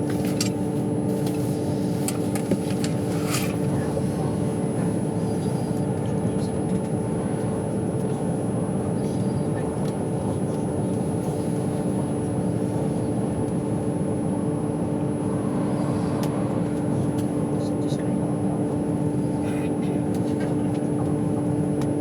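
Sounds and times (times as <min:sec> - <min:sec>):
low constant hum: 0:00.0 - 0:22.0
train running rumble: 0:00.0 - 0:22.0.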